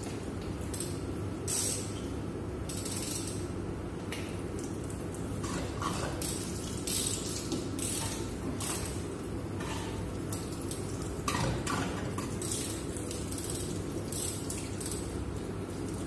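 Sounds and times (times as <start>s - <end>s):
low machinery hum: 0.0s - 16.0s.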